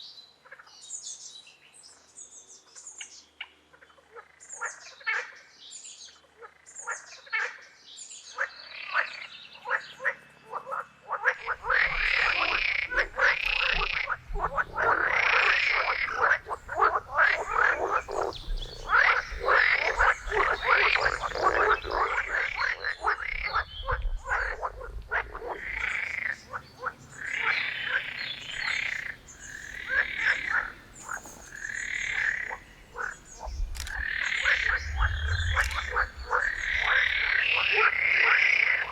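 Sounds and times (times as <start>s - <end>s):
frogs croaking: 2.8s - 38.9s.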